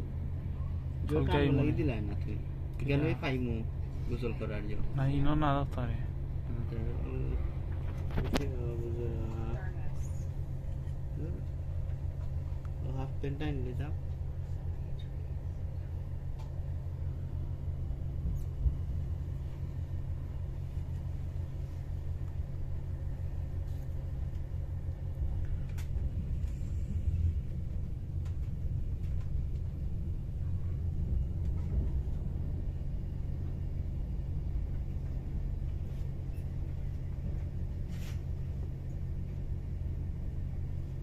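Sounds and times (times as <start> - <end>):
train rumbling inside carriage: 0.0 - 41.0.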